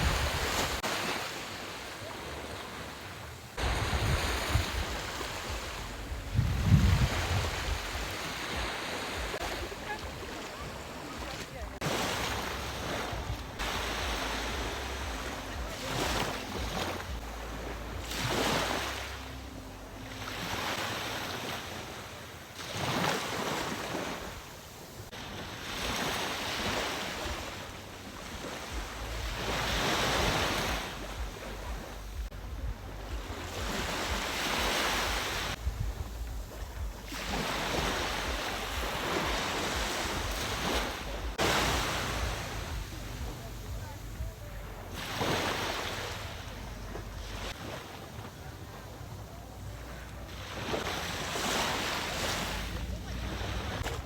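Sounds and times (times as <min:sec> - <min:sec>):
wind rumbling on microphone: 0:00.0 - 0:00.8, 0:02.9 - 0:21.2, 0:24.0 - 0:54.0
ocean waves breaking: 0:00.0 - 0:54.0.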